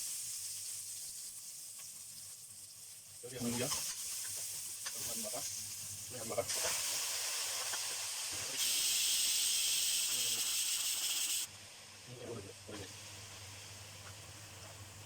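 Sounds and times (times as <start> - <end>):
beef sizzling in hot oil: 0.0 - 12.1, 12.8 - 15.0.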